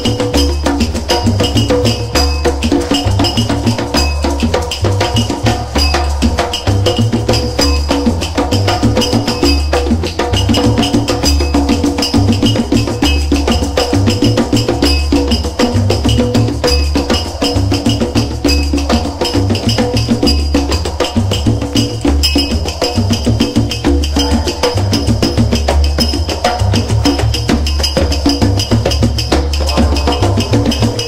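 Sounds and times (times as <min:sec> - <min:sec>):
fast clicking percussion beat: 0:00.0 - 0:31.0.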